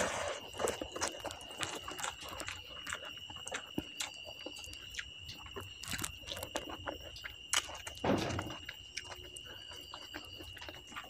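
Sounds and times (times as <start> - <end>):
person eating with wet smacks: 0.0 - 11.0.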